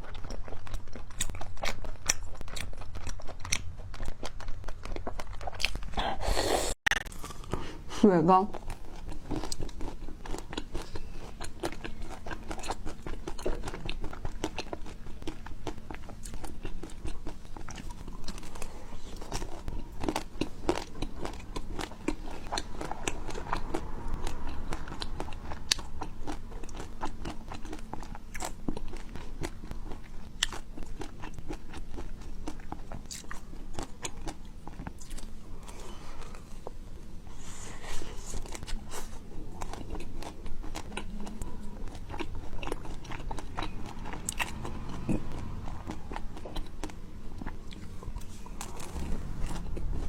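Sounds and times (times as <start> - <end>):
crisp chewing crunches: 0.0 - 7.8, 8.6 - 36.8, 37.4 - 50.0.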